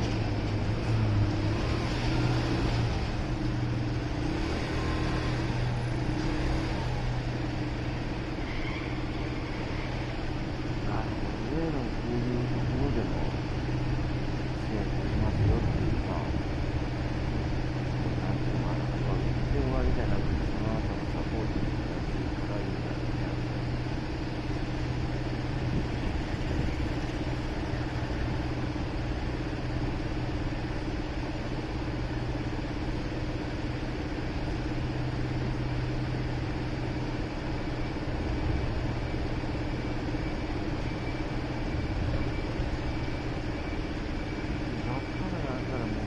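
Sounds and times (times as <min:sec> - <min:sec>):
city traffic noise: 0:00.0 - 0:46.0.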